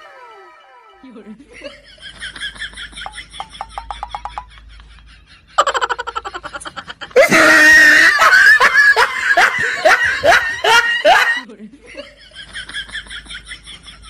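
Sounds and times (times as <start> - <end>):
laughter: 1.1 - 14.0.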